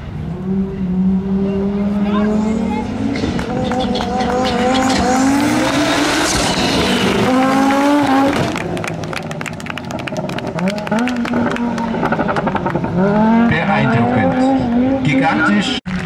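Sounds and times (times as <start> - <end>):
car engine revving: 0.0 - 16.0
exhaust popping: 1.4 - 15.3.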